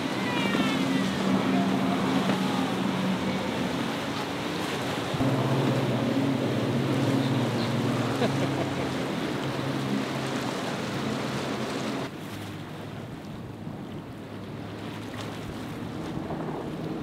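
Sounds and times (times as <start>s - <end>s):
boat engine droning: 0.0s - 17.0s
churning water rushing: 0.0s - 17.0s.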